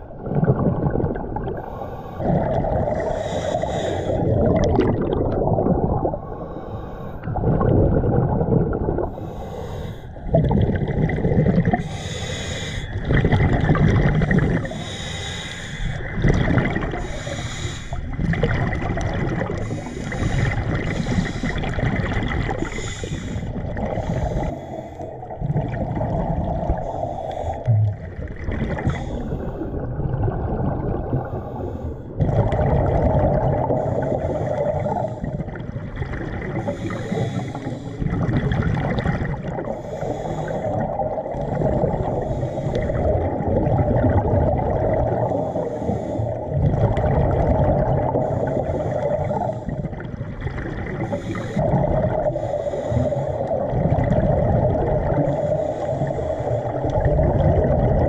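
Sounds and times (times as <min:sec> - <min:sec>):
low underwater water noise: 0:00.0 - 0:58.0
scuba diver breathing bubbles: 0:00.0 - 0:58.0.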